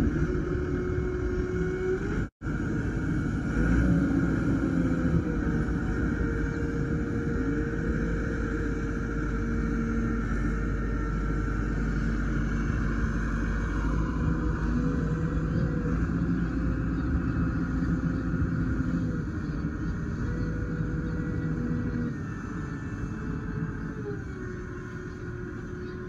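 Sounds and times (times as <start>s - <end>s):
steady low rumble: 0.0s - 26.0s
wheel loader engine running: 0.0s - 26.0s.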